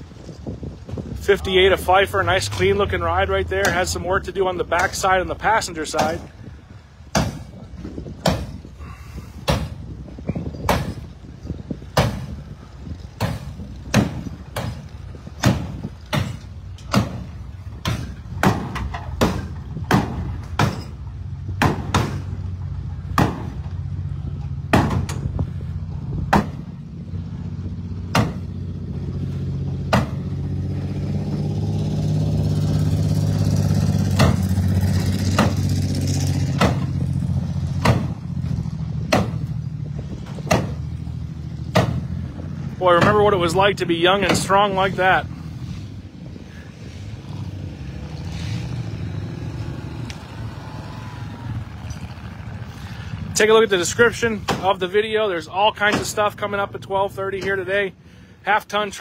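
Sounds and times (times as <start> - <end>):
vehicle engine running: 0.0 - 58.5.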